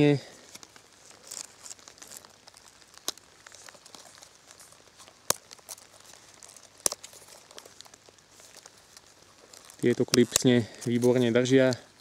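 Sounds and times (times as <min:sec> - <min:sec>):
leather rustling: 0:00.0 - 0:12.0.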